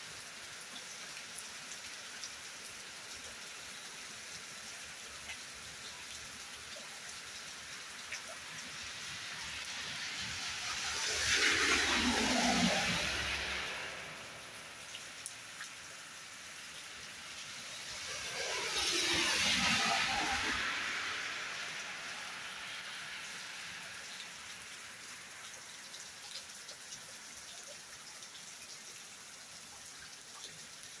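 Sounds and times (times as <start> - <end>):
heavy rain pouring: 0.0 - 27.3.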